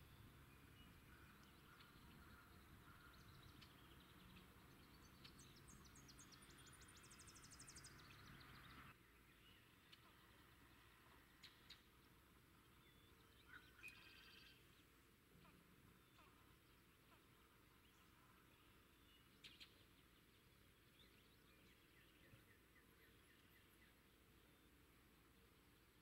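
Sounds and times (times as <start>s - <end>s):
outdoor background noise: 0.0s - 26.0s
wild birds chirping: 0.0s - 26.0s.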